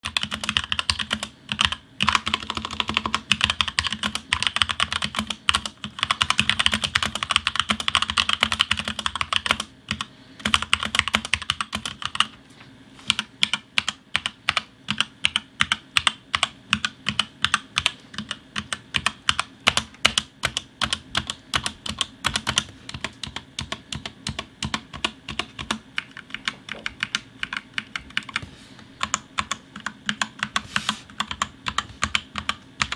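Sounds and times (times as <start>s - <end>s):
mechanical keyboard typing: 0.0s - 12.4s, 13.1s - 28.4s, 29.0s - 32.9s.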